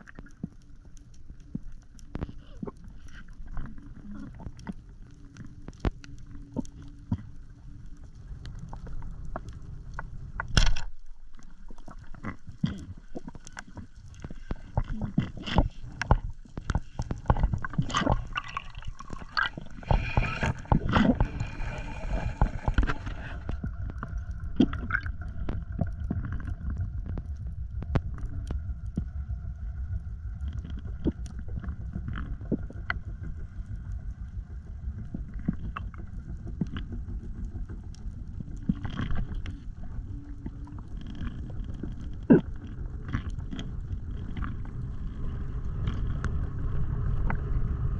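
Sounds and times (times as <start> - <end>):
underwater rumble: 0.0 - 47.9.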